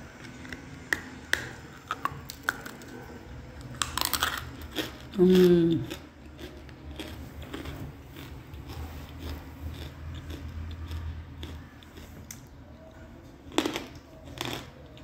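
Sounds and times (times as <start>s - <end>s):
crunching and chewing: 0.2s - 15.0s.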